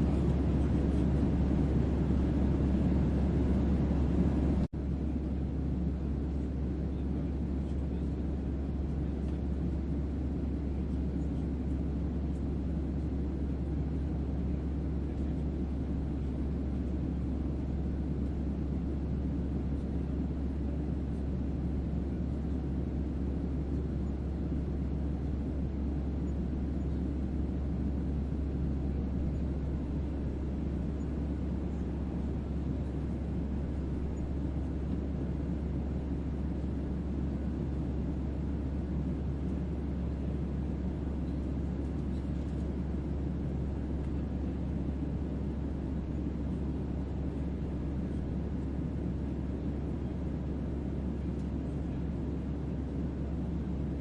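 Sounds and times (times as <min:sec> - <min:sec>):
low hum: 0:00.0 - 0:06.6, 0:07.6 - 0:52.2
white noise ambience: 0:00.0 - 0:54.0.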